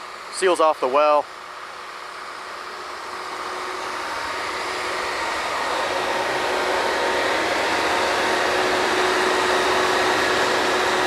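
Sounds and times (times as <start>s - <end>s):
drilling rig machinery running: 0.0s - 11.0s.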